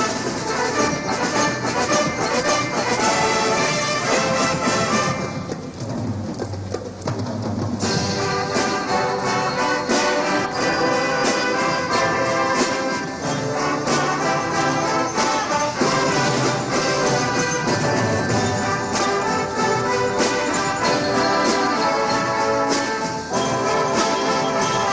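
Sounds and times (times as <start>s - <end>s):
brass horns playing a march: 0.0s - 5.5s, 7.8s - 24.9s
snare drums: 0.0s - 24.9s.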